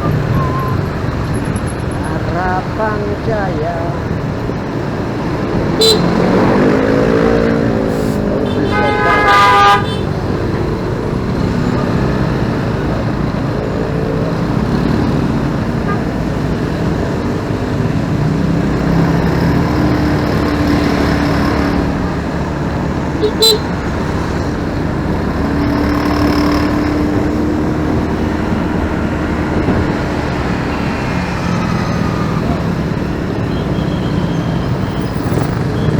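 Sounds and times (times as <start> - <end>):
motorcycle engine: 0.0 - 35.9
road traffic: 0.0 - 35.9.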